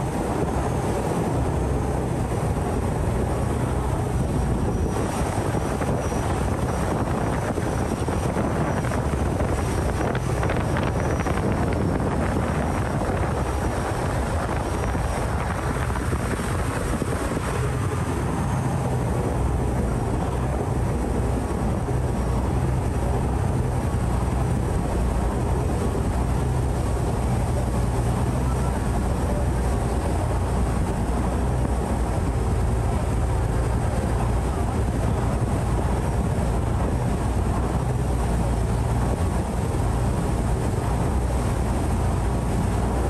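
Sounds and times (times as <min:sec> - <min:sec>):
boat engine running: 0:00.0 - 0:43.0
rushing water: 0:00.0 - 0:43.0
wind: 0:00.0 - 0:43.0.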